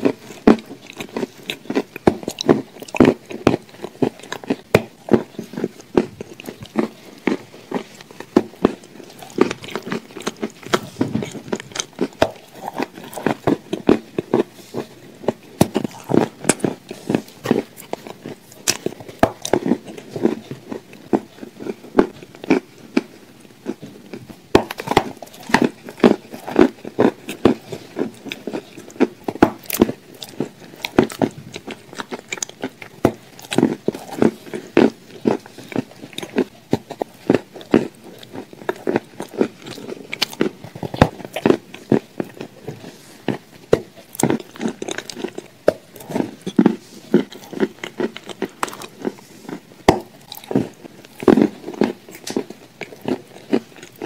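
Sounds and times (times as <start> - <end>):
person chewing crunchy cookies: 0.0 - 54.0.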